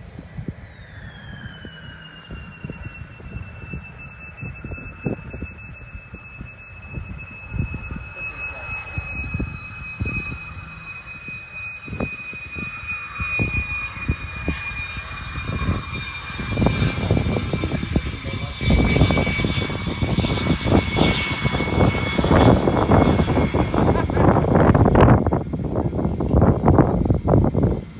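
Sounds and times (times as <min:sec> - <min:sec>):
jet engine rumble: 0:00.0 - 0:27.9
jet engine whine: 0:00.0 - 0:27.9.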